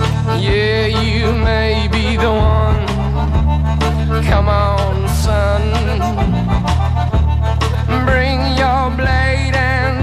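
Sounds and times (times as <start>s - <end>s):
country-rock band playing: 0.0s - 10.0s.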